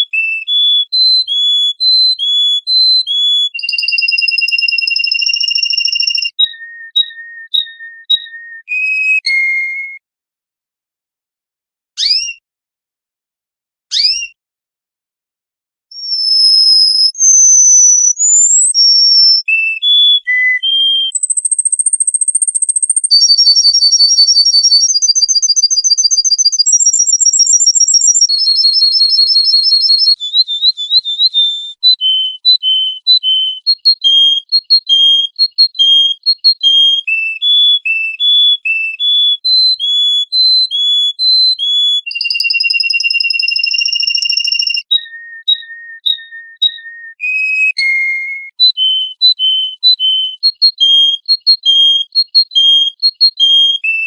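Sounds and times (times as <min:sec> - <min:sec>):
songbird whistling and trilling: 0:00.0 - 0:10.0, 0:12.0 - 0:12.4, 0:13.9 - 0:14.4, 0:15.9 - 0:54.0.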